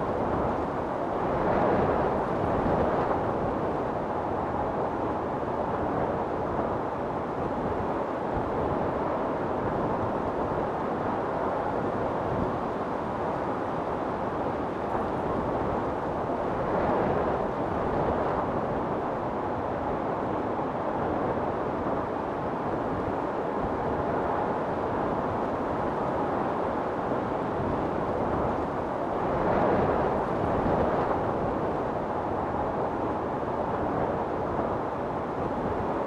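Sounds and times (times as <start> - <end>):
wind storm roaring: 0.0 - 36.0.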